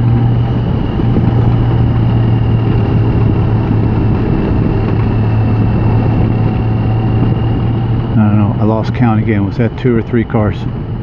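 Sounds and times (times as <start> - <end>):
motorcycle engine drone: 0.0 - 11.0
wind and road noise: 0.0 - 11.0.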